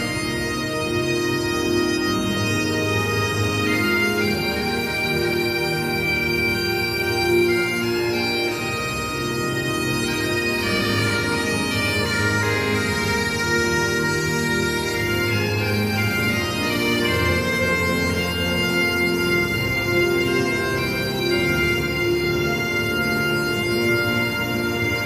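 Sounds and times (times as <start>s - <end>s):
melody of long held notes: 0.0s - 25.0s
steady drone: 0.0s - 25.0s.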